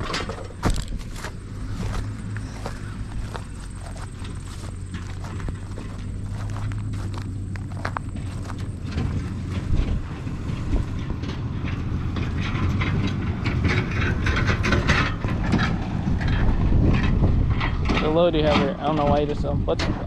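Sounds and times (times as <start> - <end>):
truck engine rumble: 0.0 - 20.0
wagon rattling and clanking: 0.0 - 20.0.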